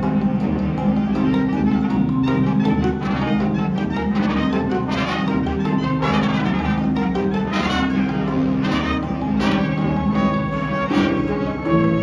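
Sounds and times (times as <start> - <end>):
wind band playing: 0.0 - 12.0.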